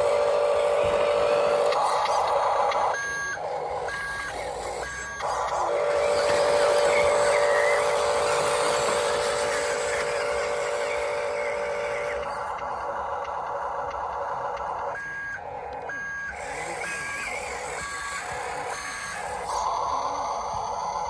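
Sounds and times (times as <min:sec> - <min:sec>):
toy electric motor whining: 0:00.0 - 0:21.0.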